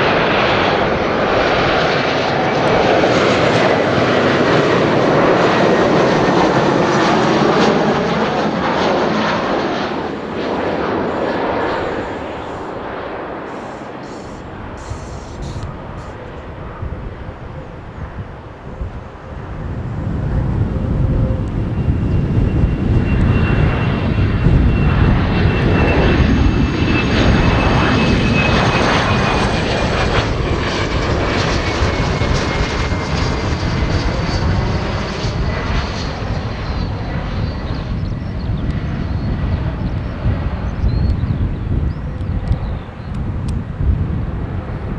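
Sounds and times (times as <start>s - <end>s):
jet airliner passing by: 0.0s - 44.9s.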